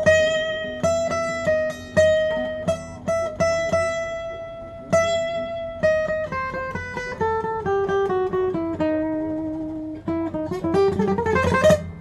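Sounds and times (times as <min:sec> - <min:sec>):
acoustic guitar picked melody: 0:00.0 - 0:12.0.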